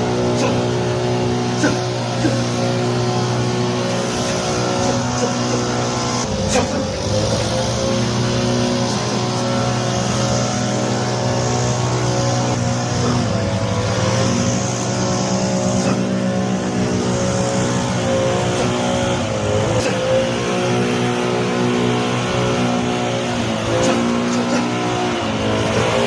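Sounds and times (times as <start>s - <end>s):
grass cutter engine running: 0.0s - 26.0s.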